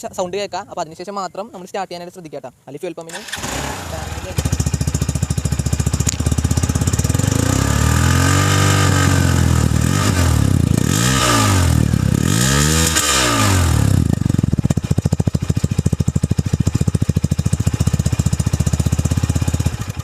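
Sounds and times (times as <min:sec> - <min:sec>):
motorcycle engine idling and revving: 0:03.1 - 0:20.0.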